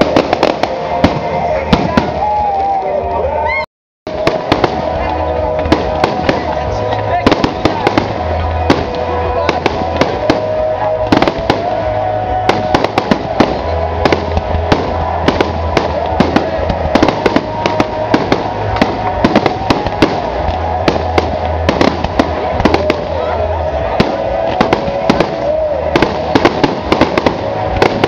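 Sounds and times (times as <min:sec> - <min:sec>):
fireworks bangs and crackles: 0:00.0 - 0:03.2, 0:04.1 - 0:28.0.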